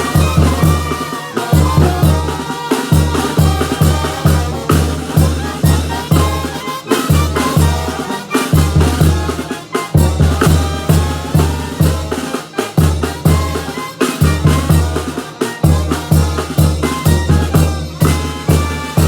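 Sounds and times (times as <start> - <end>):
brass band playing: 0.0 - 19.0
drum and cymbal hits: 0.0 - 19.0
tuba bass line: 0.0 - 19.0.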